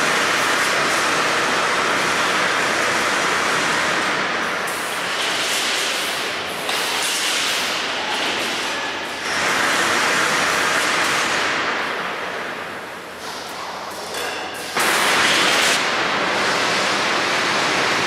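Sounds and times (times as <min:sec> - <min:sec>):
rebar bending machine running: 0:00.0 - 0:13.0, 0:14.6 - 0:18.0.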